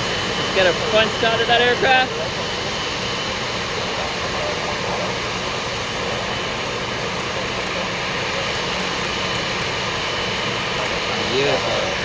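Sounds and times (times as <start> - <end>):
jet airliner engines: 0.0 - 12.0.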